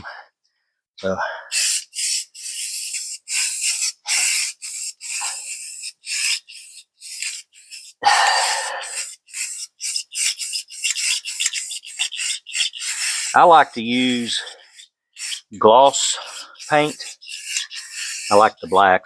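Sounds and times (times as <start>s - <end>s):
spray paint can hissing: 1.5s - 19.0s.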